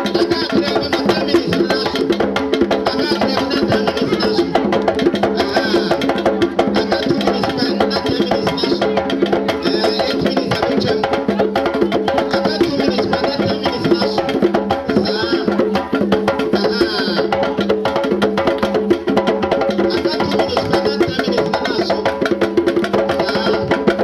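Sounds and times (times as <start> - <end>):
fast drum strokes: 0.0 - 24.0.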